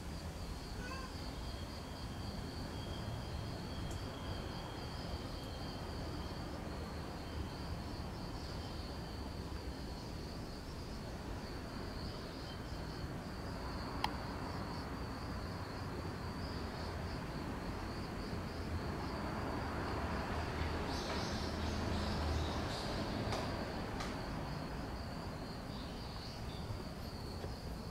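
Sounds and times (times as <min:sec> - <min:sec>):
fainter lower insect trill: 0:00.0 - 0:27.9
insects trilling: 0:00.0 - 0:27.9.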